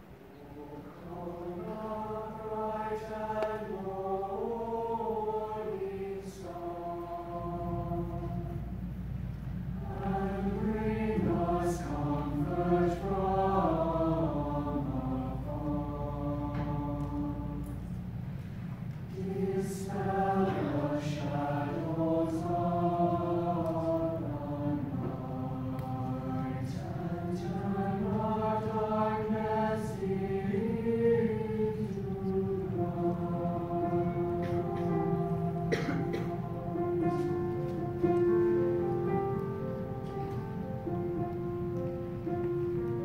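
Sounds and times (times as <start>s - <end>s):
choir singing sustained chords: 0.0s - 43.0s.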